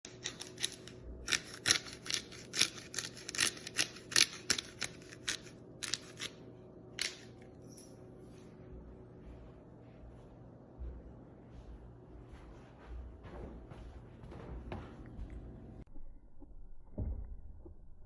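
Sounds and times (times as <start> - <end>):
faint steady hum: 2.9 - 18.0.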